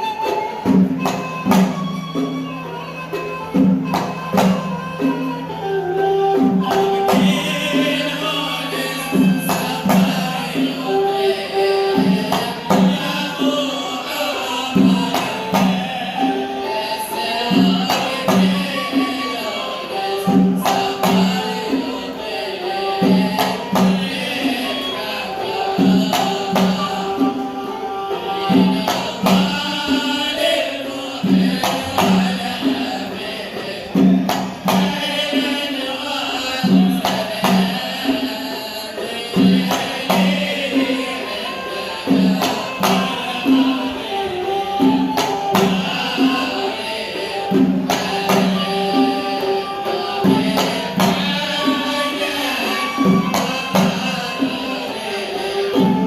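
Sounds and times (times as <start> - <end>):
hand drum beating: 0.0 - 56.0
person singing long notes: 0.0 - 56.0
sharp percussion strikes: 0.0 - 56.0.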